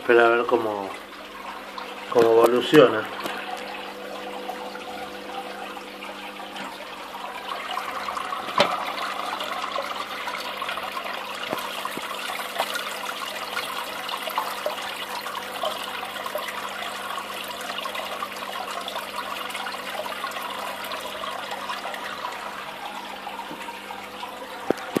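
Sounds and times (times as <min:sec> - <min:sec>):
pump humming: 0:00.0 - 0:25.0
water trickling and splashing: 0:00.0 - 0:25.0.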